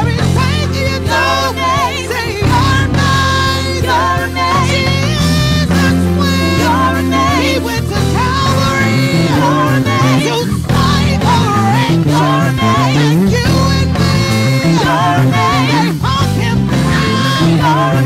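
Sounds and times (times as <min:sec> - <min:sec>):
backing singers: 0:00.0 - 0:18.0
band with bass and drums: 0:00.0 - 0:18.0
woman singing lead with vibrato: 0:00.0 - 0:18.0.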